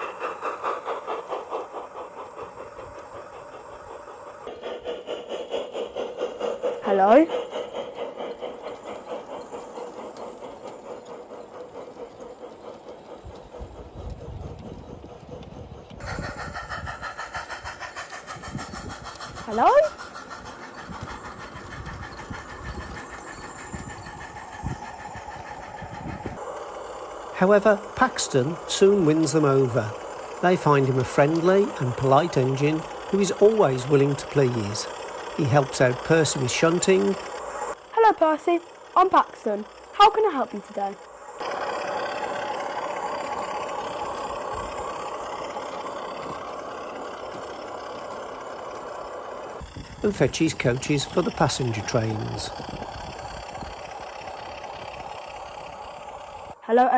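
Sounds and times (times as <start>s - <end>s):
model train wheels clicking: 0.0s - 56.9s.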